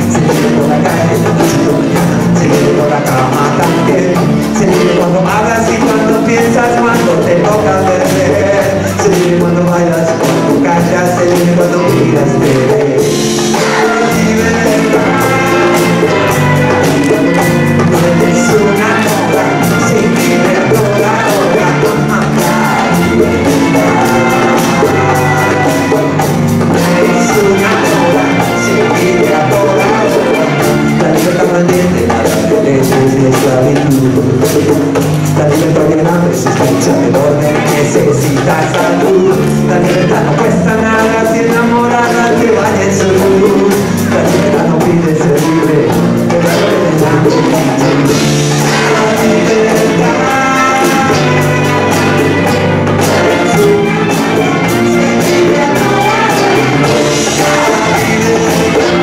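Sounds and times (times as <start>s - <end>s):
acoustic guitar: 0.0s - 59.0s
hand drums and bongos: 0.0s - 59.0s
live latin band playing: 0.0s - 59.0s.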